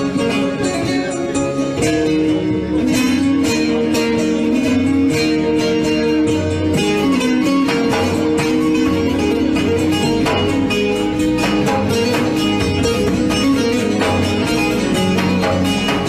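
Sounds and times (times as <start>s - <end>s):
plucked strings: 0.0s - 16.0s.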